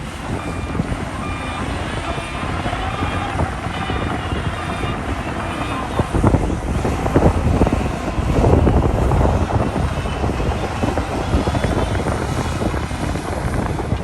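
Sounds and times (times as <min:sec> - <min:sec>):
bulldozer diesel engine rumbling: 0:00.0 - 0:14.0.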